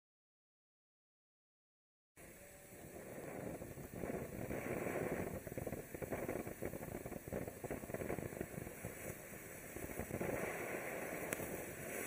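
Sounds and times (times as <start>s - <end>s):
fountain firework hissing and sputtering: 2.2s - 12.0s.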